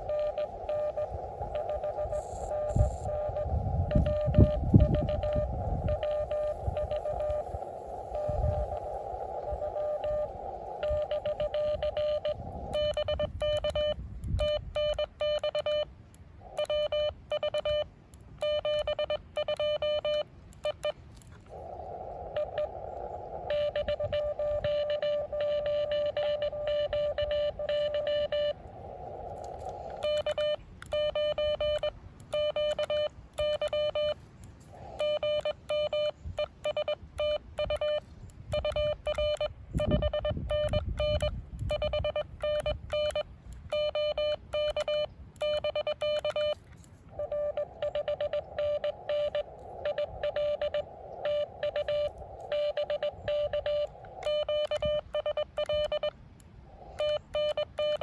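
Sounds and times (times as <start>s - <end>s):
morse code tone: 0.0s - 21.0s, 23.5s - 28.6s, 29.5s - 34.2s, 34.8s - 56.2s, 56.8s - 58.0s
radio receiver hiss: 0.0s - 58.0s.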